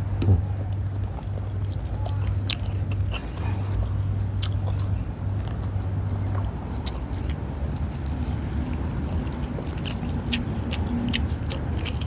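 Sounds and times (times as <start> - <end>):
low steady hum: 0.0 - 12.0
person chewing: 0.5 - 12.0.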